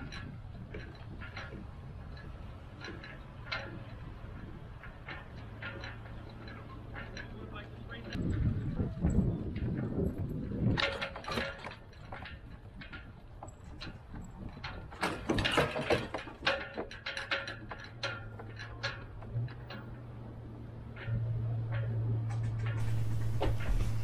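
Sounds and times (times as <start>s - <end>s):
boat trailer clicks and rattles: 0.0s - 24.0s.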